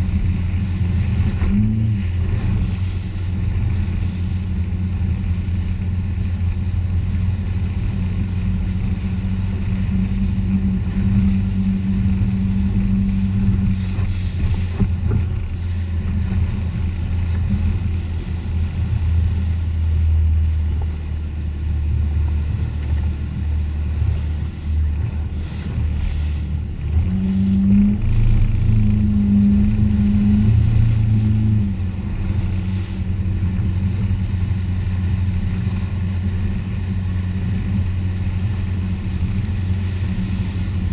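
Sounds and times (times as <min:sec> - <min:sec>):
motorboat engine drone: 0:00.0 - 0:40.9
second boat engine: 0:00.0 - 0:40.9
water rushing against hull: 0:00.0 - 0:40.9.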